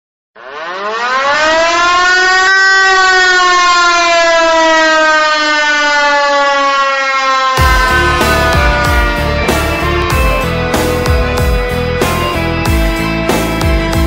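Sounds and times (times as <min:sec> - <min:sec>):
air-raid siren wailing: 0:00.4 - 0:12.6.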